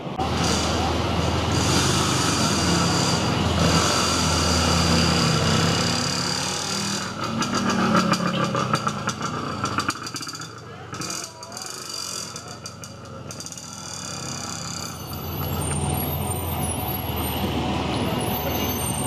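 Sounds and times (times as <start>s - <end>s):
vehicle engines running: 0.0s - 19.0s.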